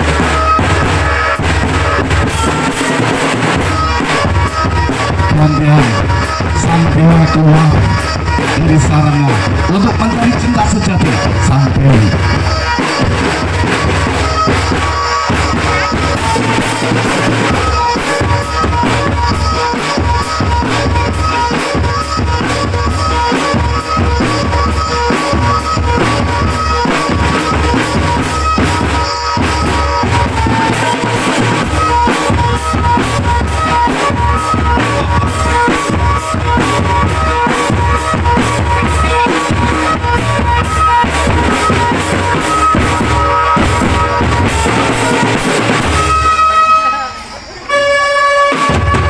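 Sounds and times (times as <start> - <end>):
high melody notes: 0.0 - 49.0
marching drum band: 0.0 - 49.0.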